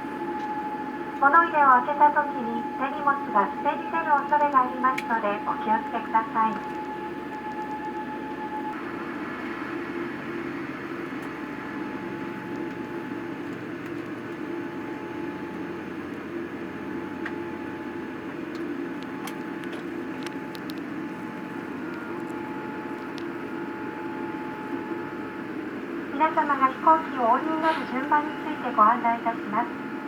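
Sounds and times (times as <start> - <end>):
cabin air hum: 0.0 - 29.7
faint steady whine: 0.0 - 30.0
jet engines idling: 0.0 - 30.0.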